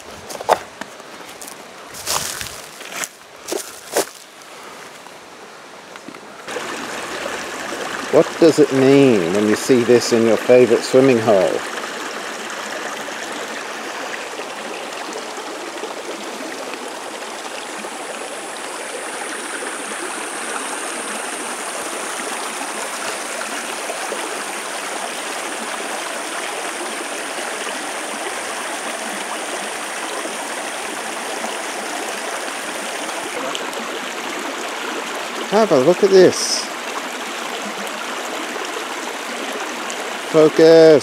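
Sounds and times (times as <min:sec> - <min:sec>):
creek water running over rocks: 0:00.0 - 0:41.0.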